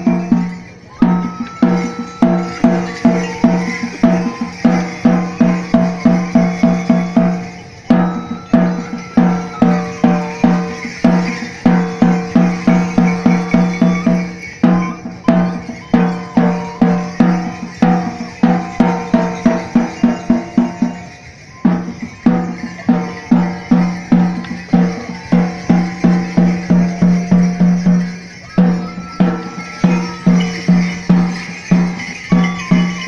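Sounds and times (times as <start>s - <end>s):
drum beaten in fast rhythm: 0.0s - 33.0s.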